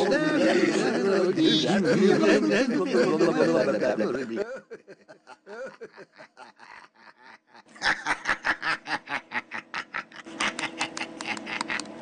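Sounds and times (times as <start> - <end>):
snickering laughter: 0.0 - 12.0.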